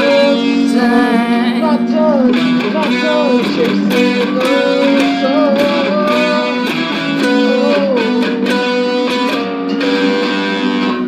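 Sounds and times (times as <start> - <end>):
lead electric guitar: 0.0 - 11.0
strummed guitars: 0.0 - 11.0.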